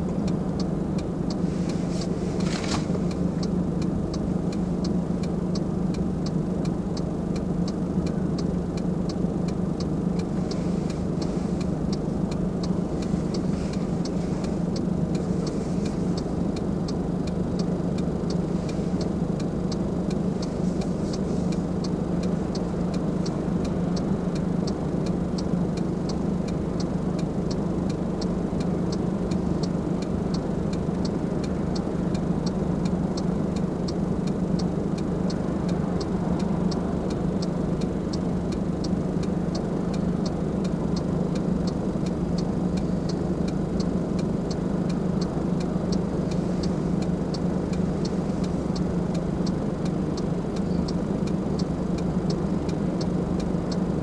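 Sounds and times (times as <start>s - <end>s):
car engine idling: 0.0s - 54.0s
turn signal clicking: 0.0s - 54.0s.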